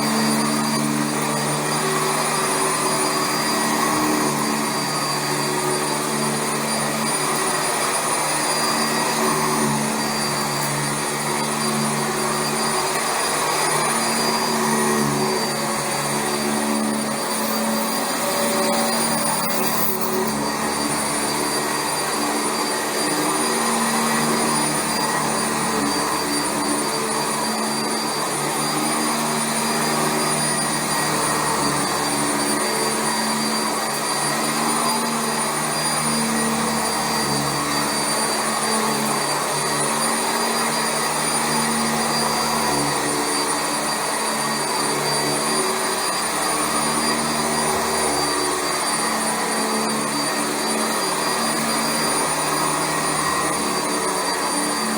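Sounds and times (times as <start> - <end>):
upright vacuum cleaner running: 0.0 - 54.9.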